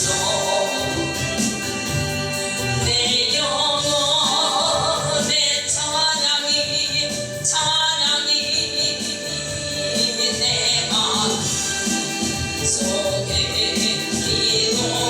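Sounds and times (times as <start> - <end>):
instrumental accompaniment: 0.0 - 15.0
person singing: 0.0 - 15.0.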